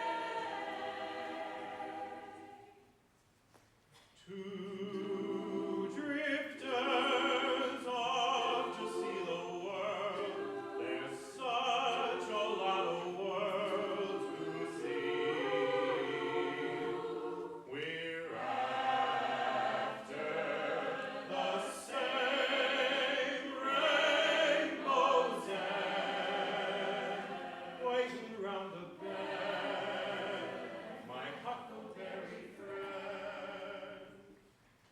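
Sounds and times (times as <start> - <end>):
vocal group singing in harmony: 0.0 - 2.9, 4.2 - 34.6.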